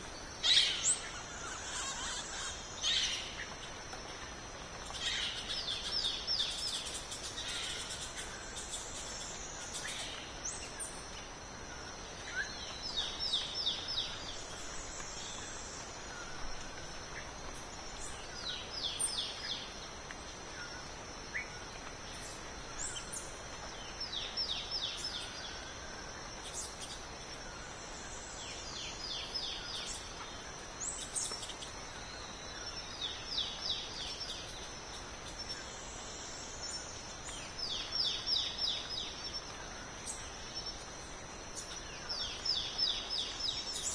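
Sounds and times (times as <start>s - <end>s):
high insect hum: 0.0s - 43.9s.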